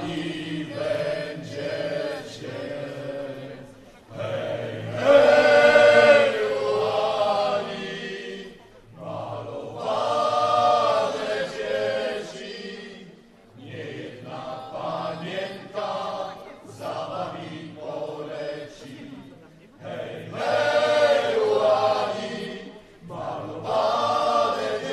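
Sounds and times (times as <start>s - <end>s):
voices singing together: 0.0s - 24.9s.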